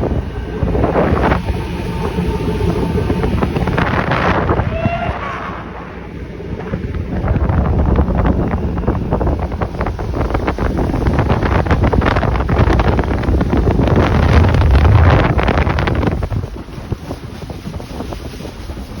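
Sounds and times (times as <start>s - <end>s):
boat motor rumble: 0.0s - 19.0s
wind buffeting microphone: 0.0s - 19.0s.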